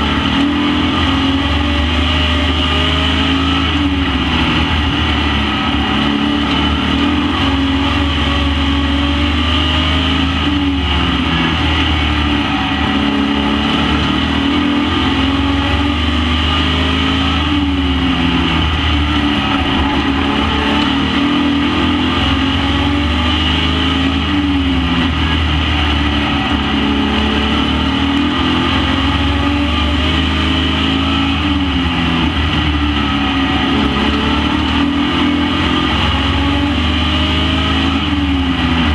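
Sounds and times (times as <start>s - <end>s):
race truck engines at full throttle: 0.0s - 38.9s.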